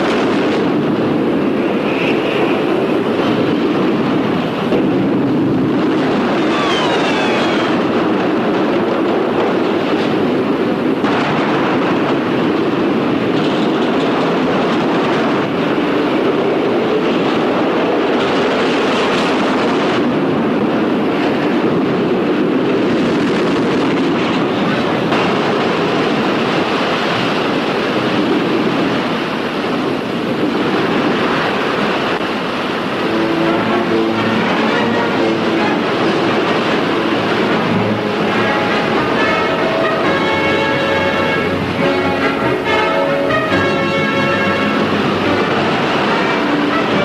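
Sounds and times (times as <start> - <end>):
roller coaster cars rattling: 0.0 - 47.0.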